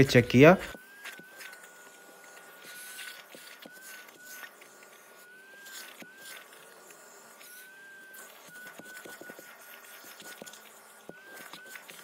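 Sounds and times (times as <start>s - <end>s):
vacuum whining: 0.0s - 12.0s.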